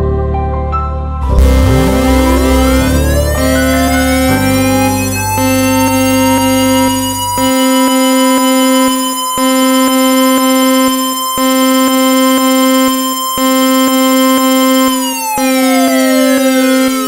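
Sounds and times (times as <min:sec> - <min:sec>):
buzzy emergency alert tone: 0:01.2 - 0:17.0.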